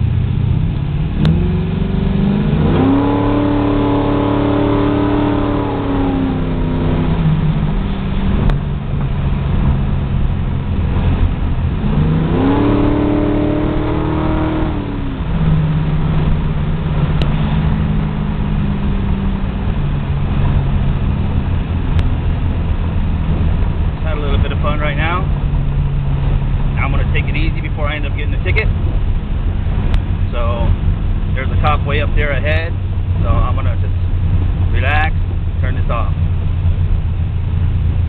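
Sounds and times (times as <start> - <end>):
car engine from inside cabin: 0.0 - 38.0.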